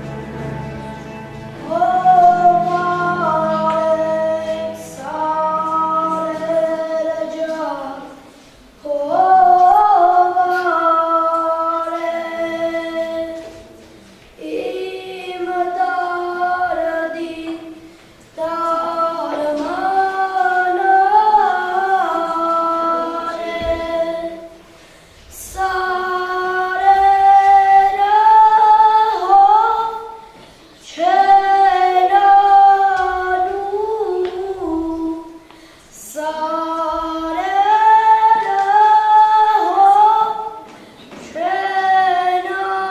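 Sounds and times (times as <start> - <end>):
woman singing unaccompanied: 1.5 - 13.8, 14.4 - 24.6, 25.3 - 42.9.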